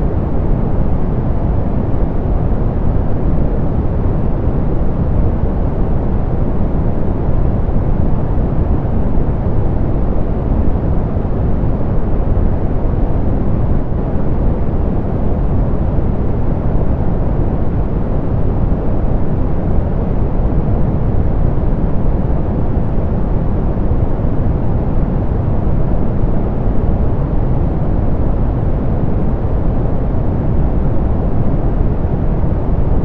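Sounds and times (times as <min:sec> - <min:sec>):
low pink noise hiss: 0:00.0 - 0:33.0.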